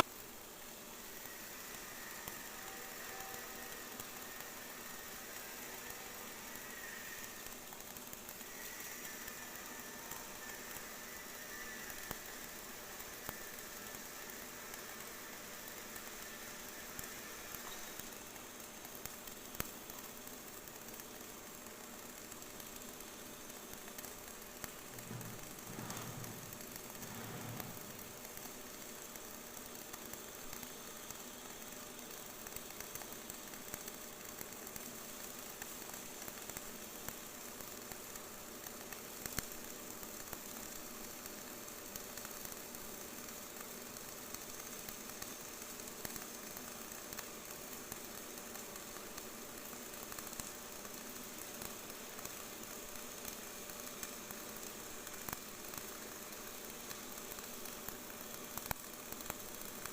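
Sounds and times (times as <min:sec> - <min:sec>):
arc welding sizzling crackle: 0:00.0 - 0:59.9
small welding pops: 0:00.0 - 0:59.9.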